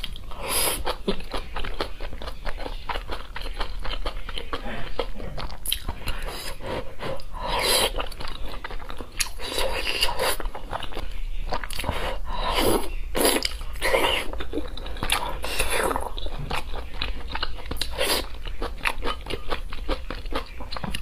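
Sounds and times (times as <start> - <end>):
chewing and biting: 0.0 - 6.6, 7.2 - 12.6, 13.2 - 21.0.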